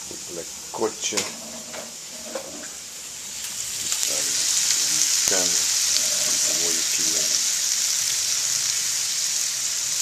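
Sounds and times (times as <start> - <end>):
vegetables sizzling in frying pan: 0.0 - 10.0.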